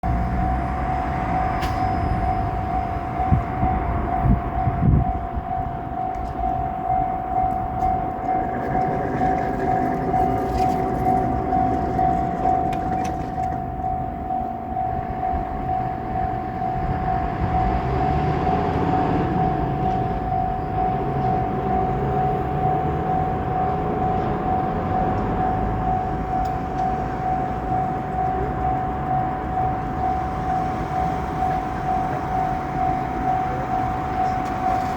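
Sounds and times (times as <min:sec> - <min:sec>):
level-crossing alarm bell: 0:00.0 - 0:34.9.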